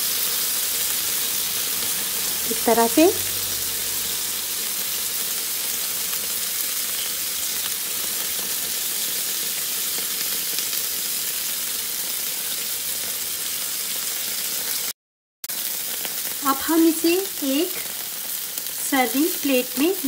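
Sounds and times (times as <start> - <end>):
skewers sizzling on a griddle: 0.0 - 20.0.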